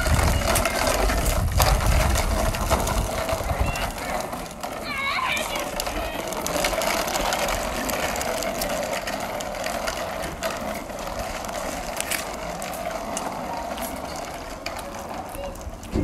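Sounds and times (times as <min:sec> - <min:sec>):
bicycle wheels rolling on tarmac: 0:00.0 - 0:16.0.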